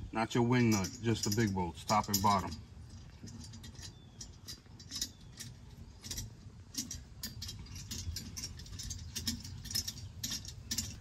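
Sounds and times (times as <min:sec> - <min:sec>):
small metallic clicks: 0:00.6 - 0:11.0.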